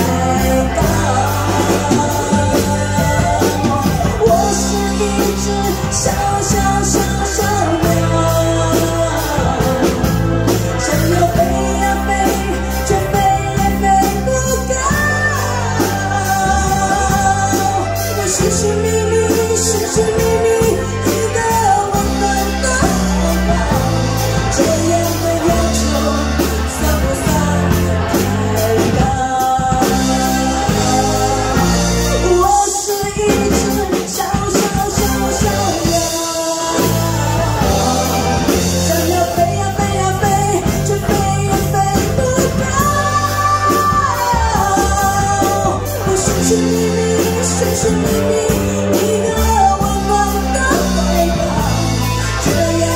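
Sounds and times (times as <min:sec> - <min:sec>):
keyboard accompaniment with beat: 0:00.0 - 0:52.9
woman singing into a microphone: 0:00.0 - 0:52.9.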